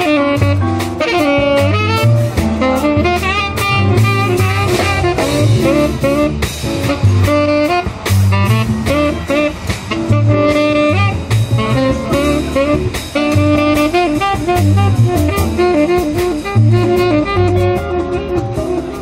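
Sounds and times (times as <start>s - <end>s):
double bass walking: 0.0s - 19.0s
drum kit with cymbals: 0.0s - 19.0s
tenor saxophone jazz melody: 0.0s - 19.0s.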